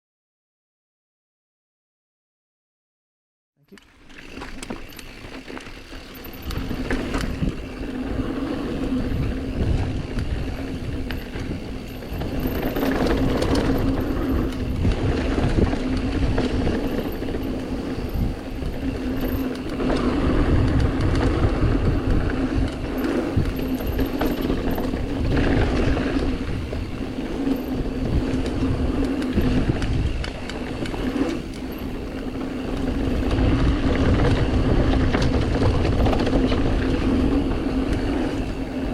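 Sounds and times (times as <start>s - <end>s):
bike tyres and frame clattering: 3.7s - 38.9s
wind rumbling on microphone: 4.2s - 38.9s.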